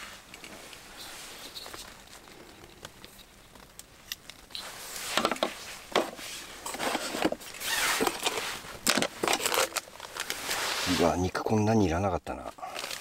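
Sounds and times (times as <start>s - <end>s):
rustling handling noise: 0.0s - 11.4s, 12.6s - 13.0s.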